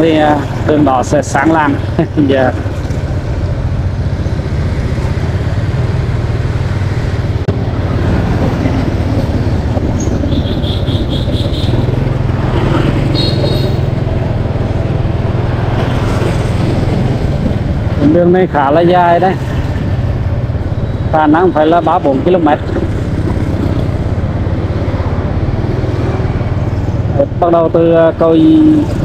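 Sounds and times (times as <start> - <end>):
motorbike engine drone: 0.0 - 29.0
road noise: 0.0 - 29.0.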